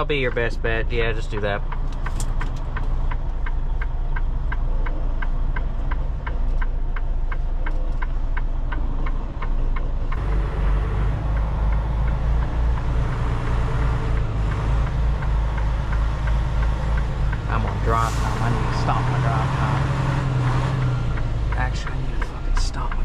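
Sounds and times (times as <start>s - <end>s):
diesel truck engine: 0.0s - 23.0s
turn signal ticking: 0.0s - 23.0s.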